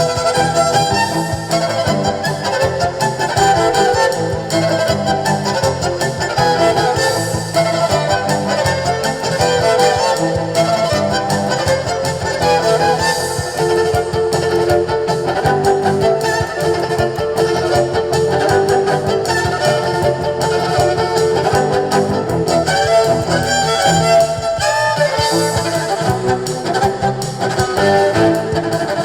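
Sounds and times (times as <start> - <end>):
live band playing instrumental: 0.0 - 29.0.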